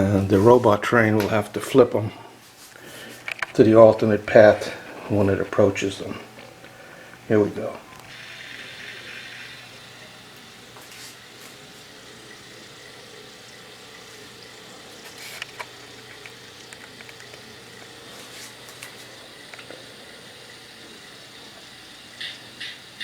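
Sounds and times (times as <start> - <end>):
model train motor hum: 4.0 - 23.0.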